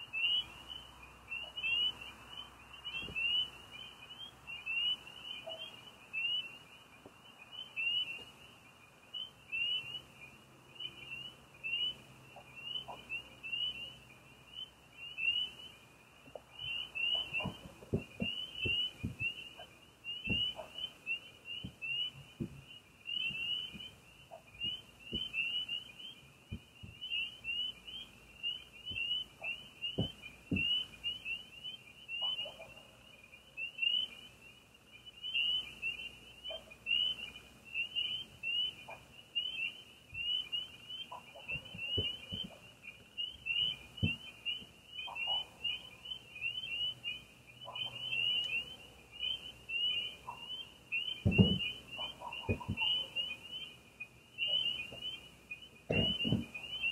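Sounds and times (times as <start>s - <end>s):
frogs peeping: 0.0s - 56.9s
lower frog calls: 0.0s - 56.9s.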